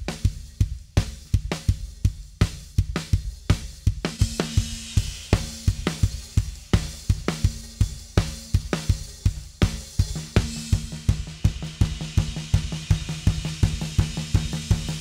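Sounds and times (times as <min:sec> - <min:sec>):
drum kit groove: 0:00.0 - 0:15.0.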